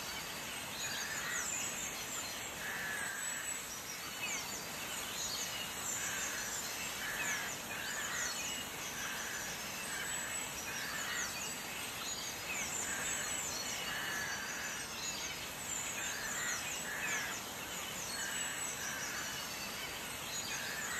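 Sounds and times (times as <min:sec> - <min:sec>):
background hiss: 0:00.0 - 0:20.9.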